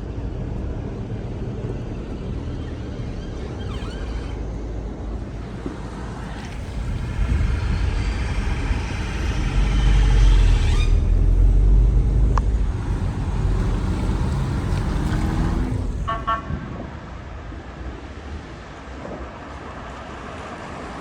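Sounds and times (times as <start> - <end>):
heavy vehicle engine rumble: 0.0 - 19.8.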